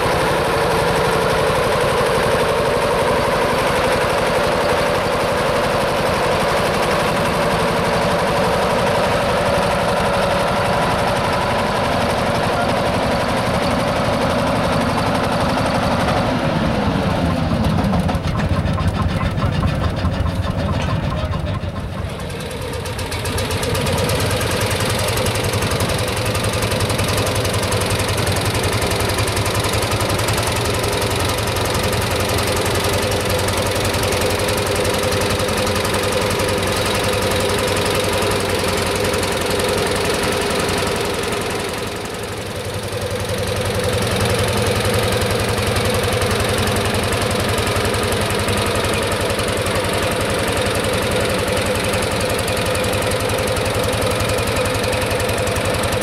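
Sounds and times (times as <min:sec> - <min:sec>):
tractor engine knocking: 0:00.0 - 0:56.0.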